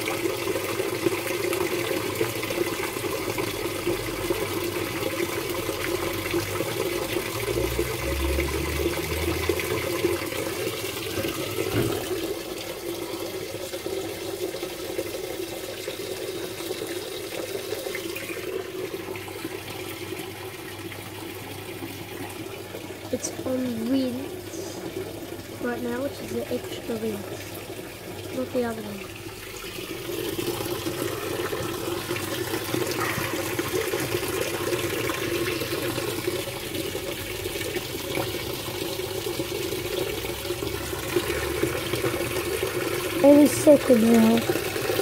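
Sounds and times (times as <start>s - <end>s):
water running into washing machine: 0.0s - 45.0s.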